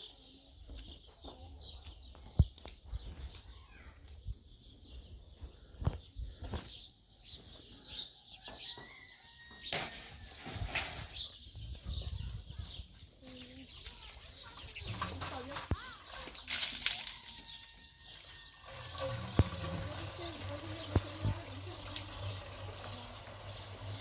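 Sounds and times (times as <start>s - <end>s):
birds chirping: 0.0s - 9.7s, 10.8s - 24.0s.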